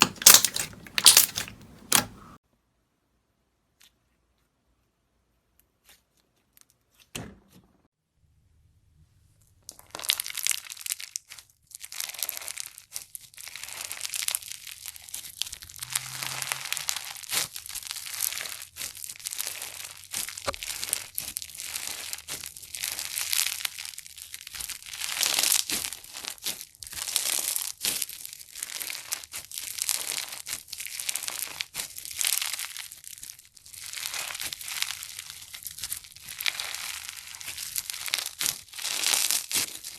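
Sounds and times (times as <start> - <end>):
slime crackling and popping: 0.0 - 2.4, 9.7 - 39.9.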